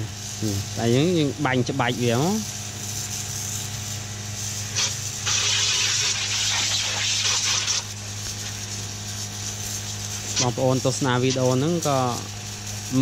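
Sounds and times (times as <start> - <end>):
pump motor humming: 0.0 - 13.0
water spray hissing: 0.0 - 13.0.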